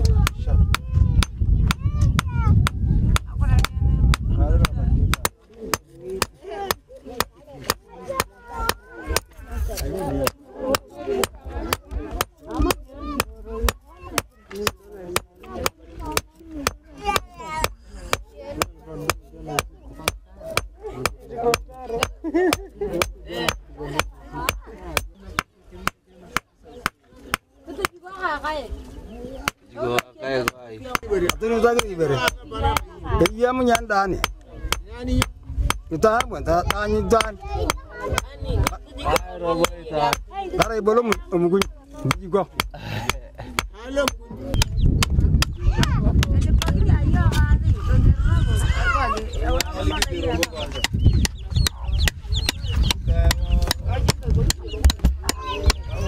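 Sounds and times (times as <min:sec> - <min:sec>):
people talking: 0:00.0 - 0:56.0.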